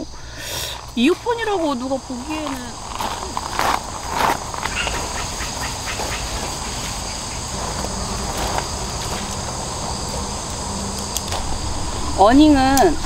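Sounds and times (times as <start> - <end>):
insects chirring: 0.0 - 13.0
low rumble: 0.0 - 13.0.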